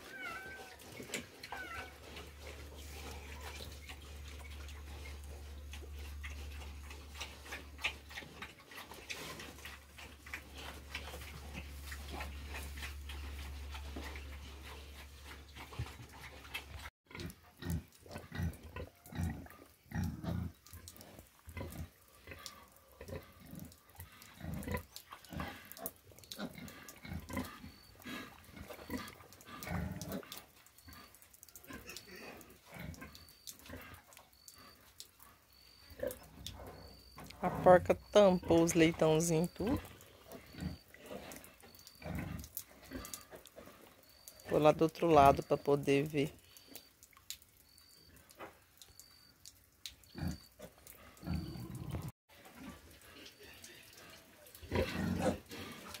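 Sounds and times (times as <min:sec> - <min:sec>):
pigs snuffling and grunting: 0:00.0 - 0:56.0.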